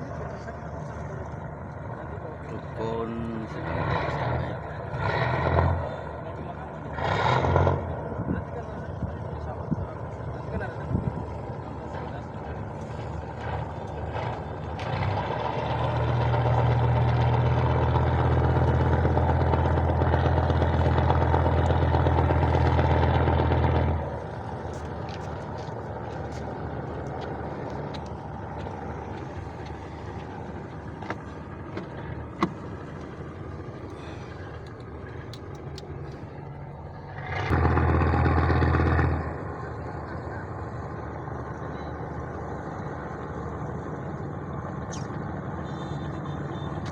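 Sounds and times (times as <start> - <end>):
large engine humming: 0.0 - 46.9.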